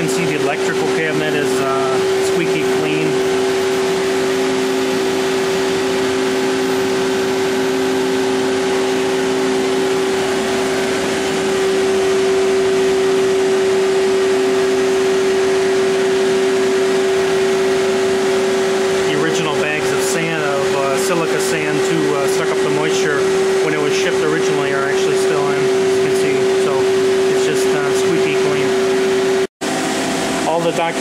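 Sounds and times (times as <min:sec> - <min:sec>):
lathe machine hum and whine: 0:00.0 - 0:31.0.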